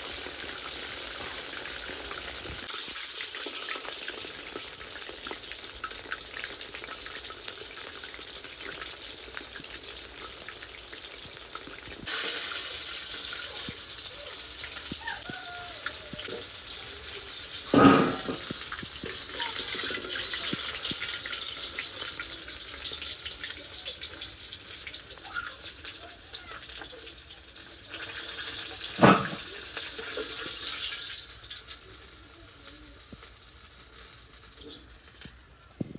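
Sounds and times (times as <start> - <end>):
oil sizzling and crackling: 0.0 - 35.9.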